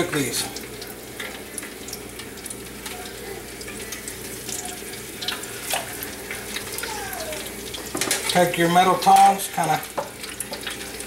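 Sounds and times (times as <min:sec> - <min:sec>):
oil bubbling in deep fryer: 0:00.0 - 0:11.0.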